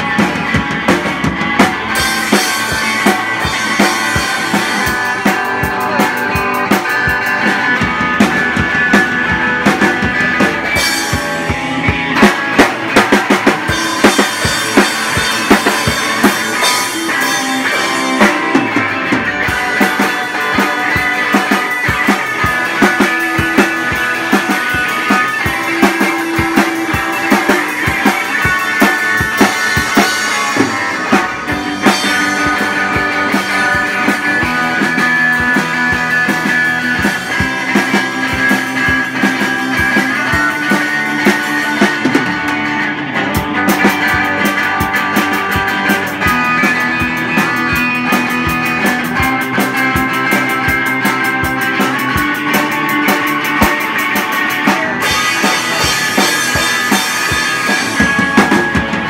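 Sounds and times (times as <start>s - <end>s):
drum strikes and cymbals: 0.0s - 59.0s
rock band playing live: 0.0s - 59.0s.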